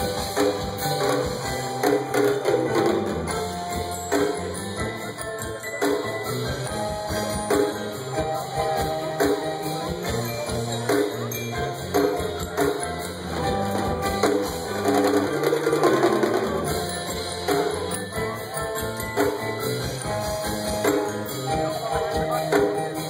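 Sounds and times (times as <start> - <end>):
live band playing: 0.0 - 23.0.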